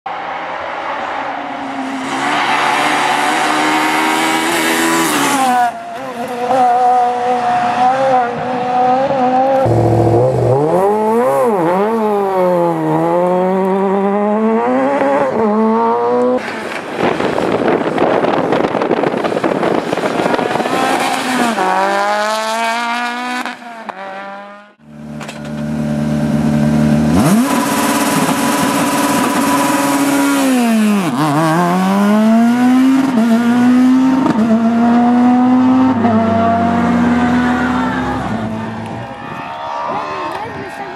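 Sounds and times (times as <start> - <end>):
rally car engines revving hard: 1.8 - 39.0.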